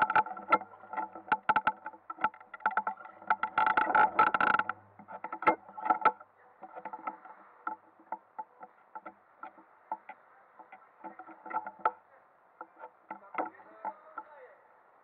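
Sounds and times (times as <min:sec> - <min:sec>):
ice kart clattering and rattling: 0:00.0 - 0:12.0, 0:12.6 - 0:14.3.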